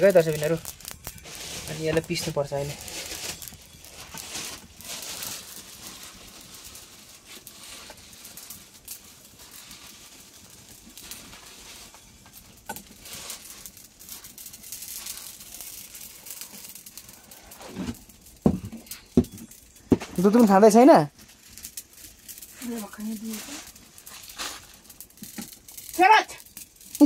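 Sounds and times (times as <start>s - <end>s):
wood fire crackling and hissing: 0.0s - 27.0s.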